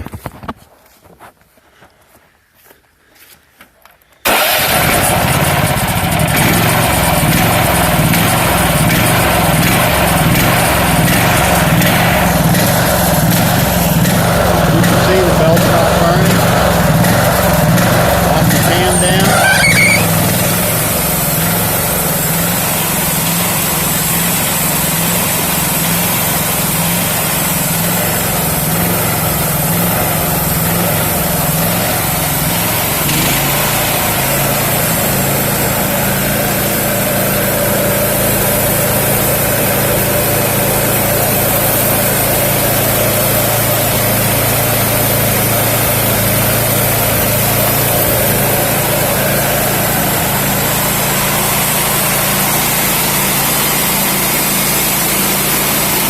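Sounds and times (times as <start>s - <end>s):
petrol engine running: 4.3s - 56.0s.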